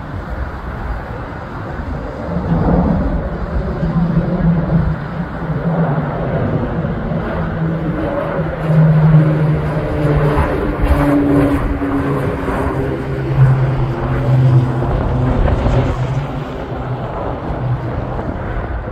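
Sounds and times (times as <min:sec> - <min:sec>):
propeller airplane drone: 0:00.0 - 0:18.9.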